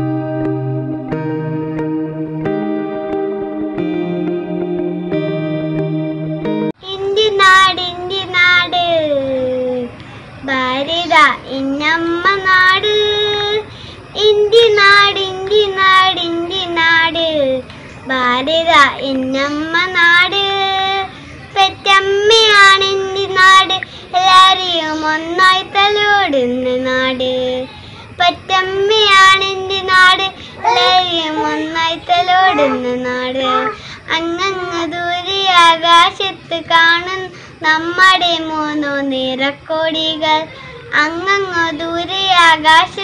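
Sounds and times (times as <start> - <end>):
girl singing unaccompanied: 6.7 - 43.0.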